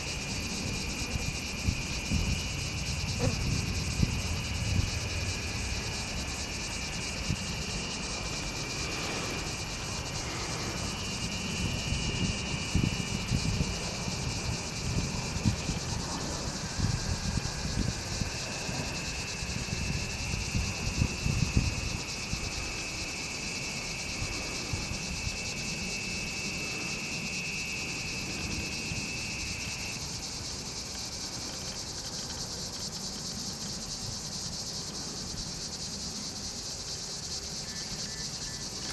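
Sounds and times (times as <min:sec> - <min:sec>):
insects buzzing: 0:00.0 - 0:38.9
shrill insect song: 0:00.0 - 0:38.9.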